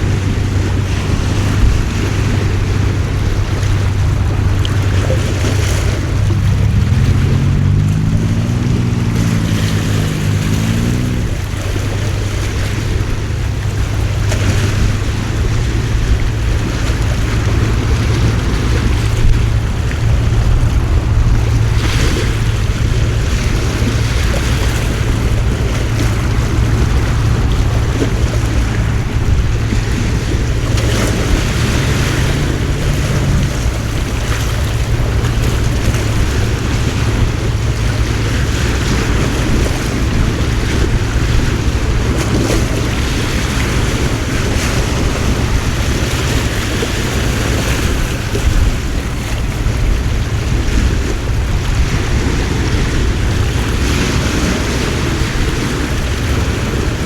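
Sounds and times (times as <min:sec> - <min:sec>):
low hum: 0:00.0 - 0:57.0
wind and water washing: 0:00.0 - 0:57.0
wind buffeting microphone: 0:00.0 - 0:57.0.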